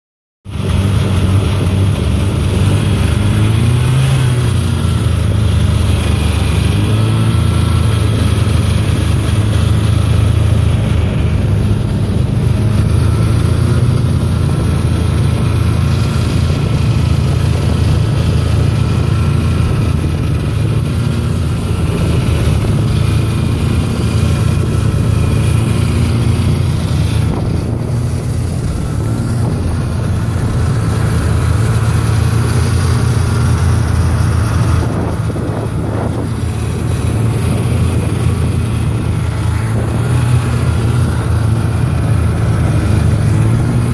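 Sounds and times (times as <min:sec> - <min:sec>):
snowmobile engine running: 0:00.5 - 0:43.9.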